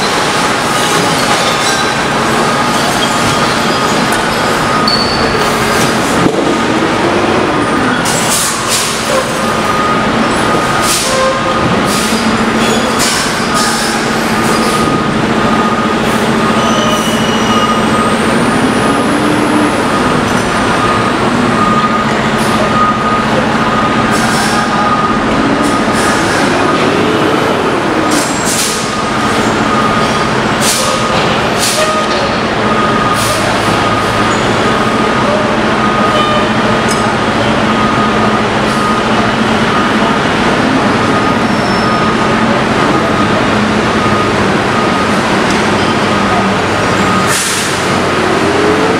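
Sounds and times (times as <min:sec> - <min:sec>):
garbage truck diesel engine running: 0:00.0 - 0:48.9.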